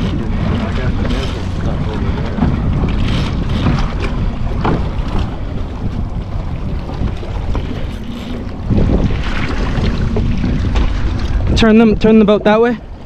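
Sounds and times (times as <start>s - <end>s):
boat engines idling: 0.0s - 13.0s
wind buffeting microphone: 0.0s - 13.0s.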